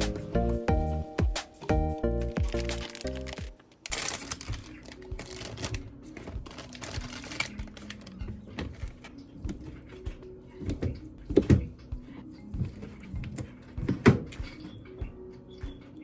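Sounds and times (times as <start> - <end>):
piano background music: 0.0 - 16.0.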